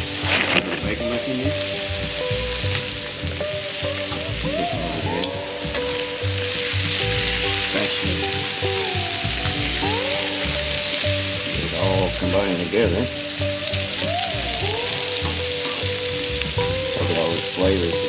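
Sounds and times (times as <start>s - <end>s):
faint background music: 0.0s - 18.0s
food sizzling on a griddle: 0.0s - 18.0s.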